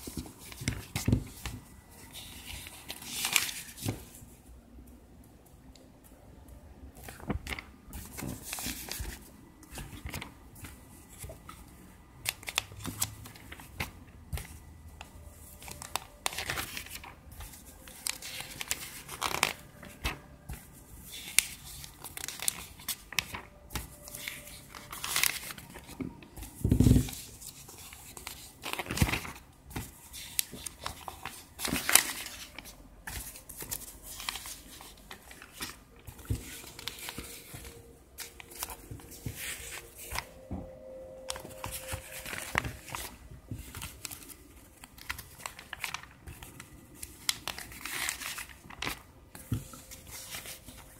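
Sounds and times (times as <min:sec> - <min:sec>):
glossy paper pages turning: 0:00.0 - 0:04.2, 0:07.0 - 0:11.6, 0:12.2 - 0:14.7, 0:15.4 - 0:50.9.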